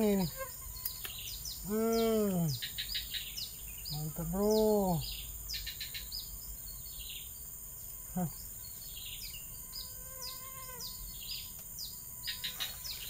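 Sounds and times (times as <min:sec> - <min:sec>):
birds chirping: 0:00.0 - 0:13.0
high-pitched insect drone: 0:00.0 - 0:13.0.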